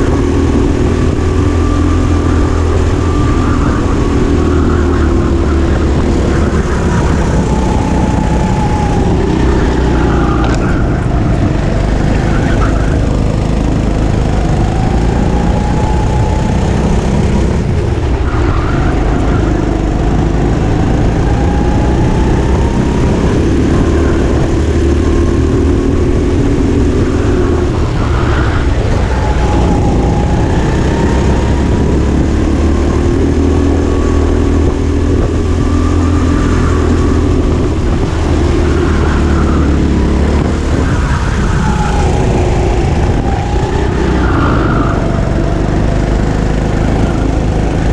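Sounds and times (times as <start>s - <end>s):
go-kart engine revving: 0.0s - 47.9s.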